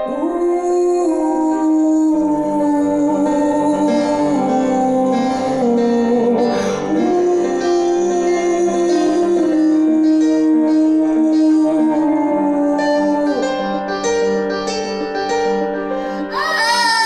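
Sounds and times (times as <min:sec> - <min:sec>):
live pop ballad melody: 0:00.0 - 0:17.0.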